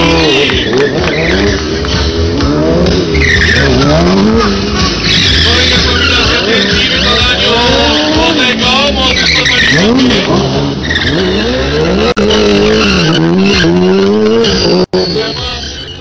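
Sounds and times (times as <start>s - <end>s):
motorcycle engines revving: 0.0s - 16.0s
tyre squeal: 0.0s - 16.0s.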